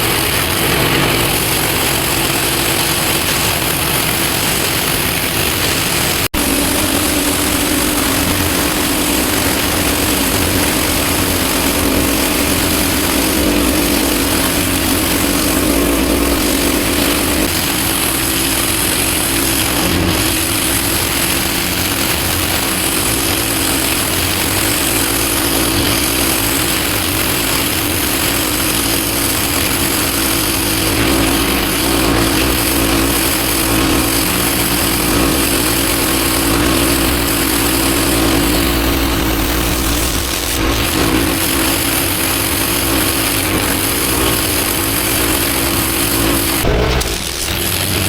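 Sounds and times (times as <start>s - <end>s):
pressure washer engine humming: 0.0s - 48.0s
water spray hissing: 0.0s - 48.0s.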